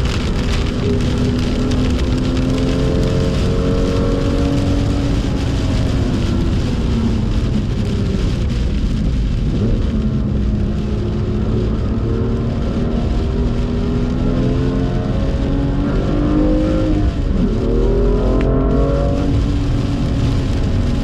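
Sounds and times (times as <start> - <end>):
car engine at speed: 0.0 - 21.0
rain and tyre spray hiss: 0.0 - 21.0.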